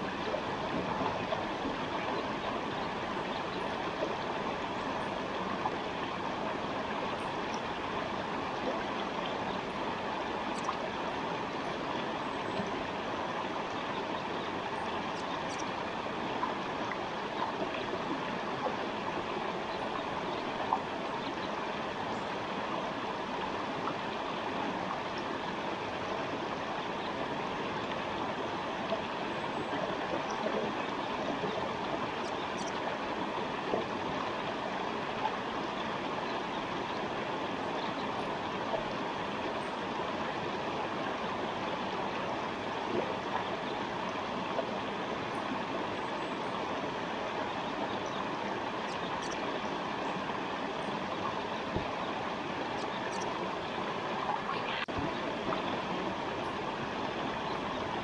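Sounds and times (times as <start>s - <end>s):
stream water rushing: 0.0s - 58.0s
water splashes: 0.0s - 58.0s.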